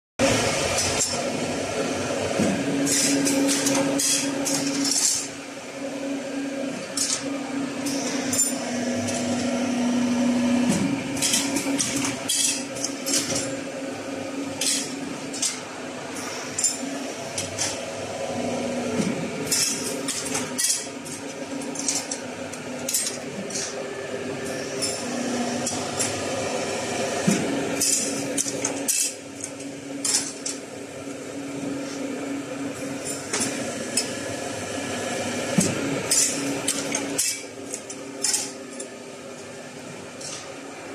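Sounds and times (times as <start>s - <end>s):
thread-cutting machine motor hum: 0.2s - 40.9s.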